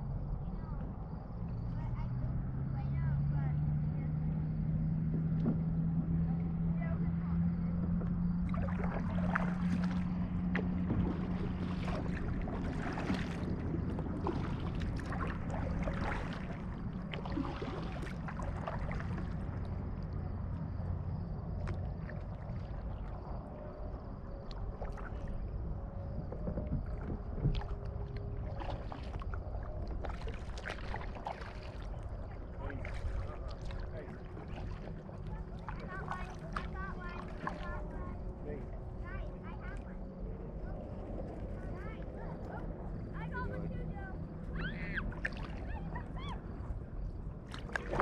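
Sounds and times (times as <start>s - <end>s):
low hum: 0.0s - 48.0s
water lapping against kayak: 0.0s - 48.0s.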